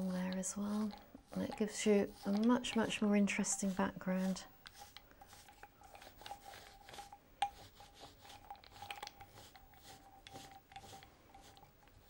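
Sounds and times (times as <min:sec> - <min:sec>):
foam roller rubbing on paper: 0:00.0 - 0:12.0.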